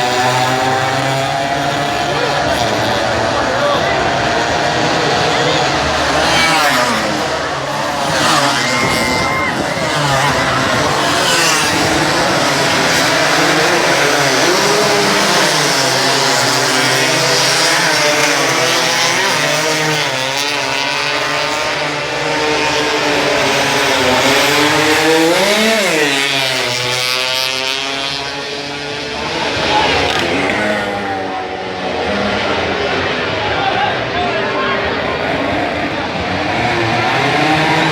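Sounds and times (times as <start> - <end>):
racing motorcycle engines revving: 0.0 - 37.9.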